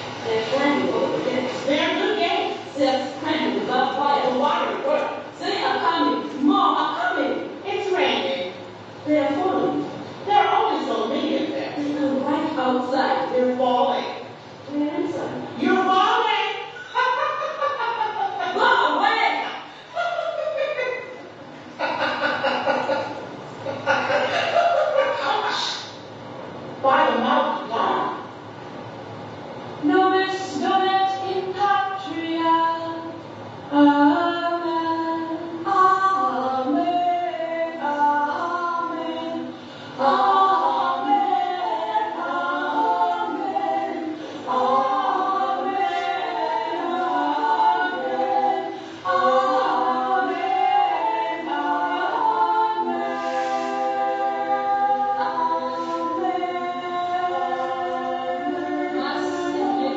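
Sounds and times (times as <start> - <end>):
women singing unaccompanied: 0.0 - 16.9, 18.2 - 21.2, 29.8 - 59.9.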